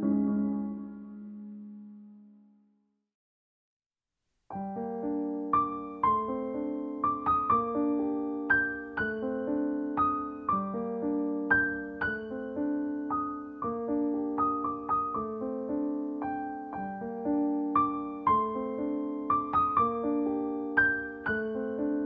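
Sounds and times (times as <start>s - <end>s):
gentle piano music: 0.0s - 2.6s, 4.5s - 22.0s.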